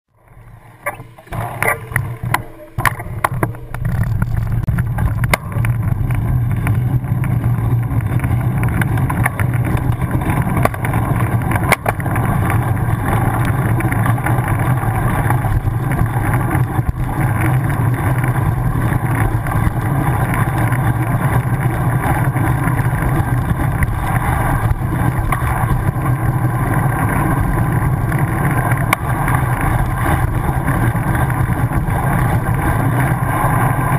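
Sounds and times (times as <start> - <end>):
bike tyre and wind rumble: 0.1 - 33.9.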